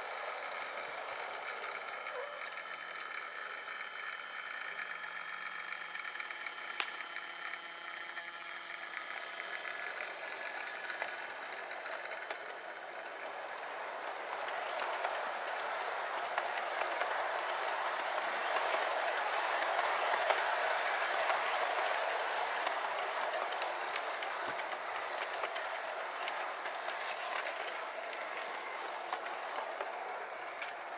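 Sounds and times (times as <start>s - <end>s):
model train wheels rattling on rail: 0.0s - 30.9s
thin motor whine: 0.0s - 30.9s.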